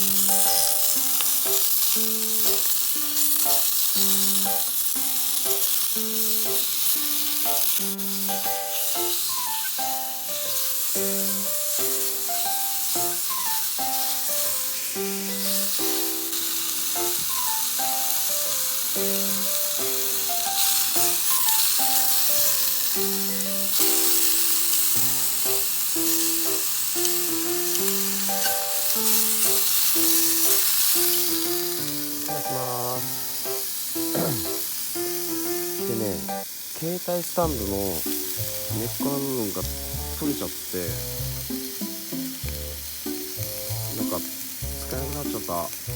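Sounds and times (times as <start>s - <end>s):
bouncy background music: 0.0s - 36.4s, 37.4s - 45.9s
meat sizzling in a pan: 0.0s - 45.9s.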